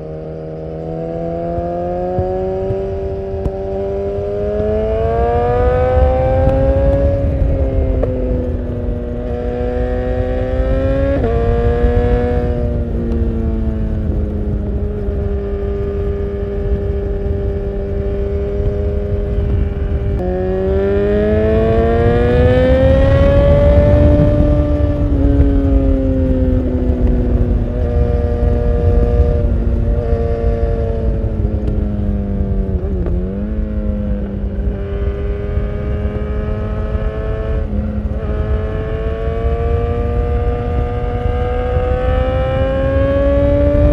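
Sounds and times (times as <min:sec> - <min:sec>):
motorcycle engine revving: 0:00.0 - 0:43.9
wind rumble on microphone: 0:00.0 - 0:43.9.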